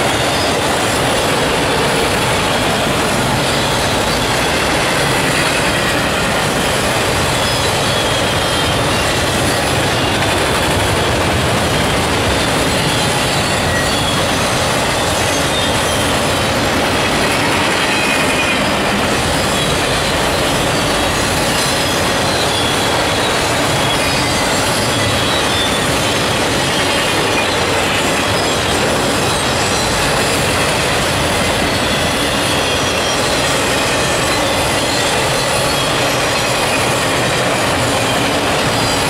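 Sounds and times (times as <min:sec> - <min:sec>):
high wheel squeals: 0:00.0 - 0:39.0
train wheels rumbling on rails: 0:00.0 - 0:39.0.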